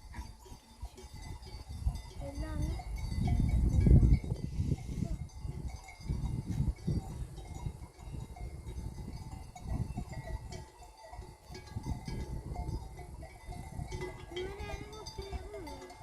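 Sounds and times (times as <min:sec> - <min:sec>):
goat neck bells jingling: 0:00.0 - 0:16.0.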